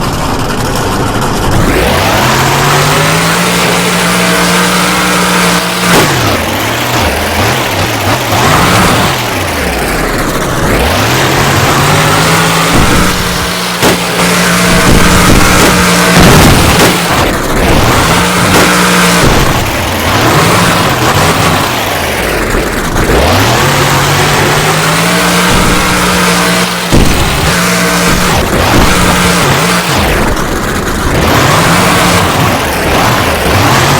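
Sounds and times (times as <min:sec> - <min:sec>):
monster truck engine revving: 0:00.0 - 0:33.9.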